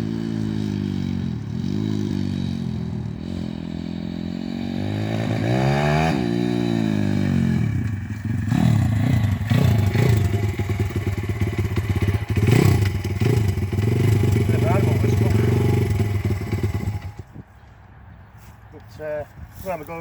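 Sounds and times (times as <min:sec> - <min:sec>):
small motorbike engine revving: 0:00.0 - 0:17.2.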